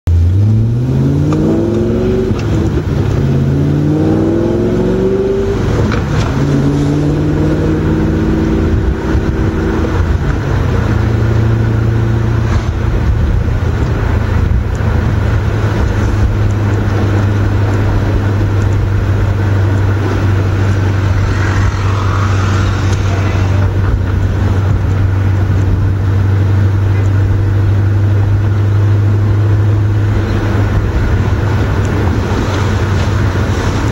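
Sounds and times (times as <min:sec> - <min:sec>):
car engine accelerating through gears: 0:00.1 - 0:33.9.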